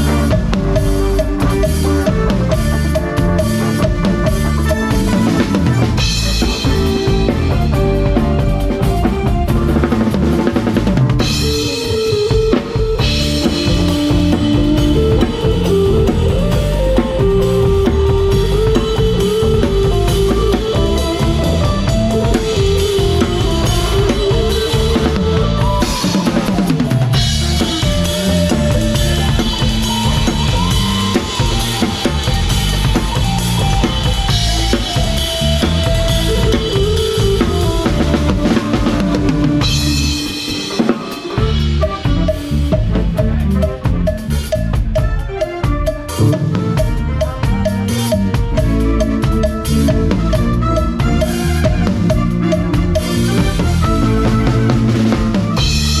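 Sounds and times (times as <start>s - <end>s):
live band playing cha-cha: 0.0s - 56.0s.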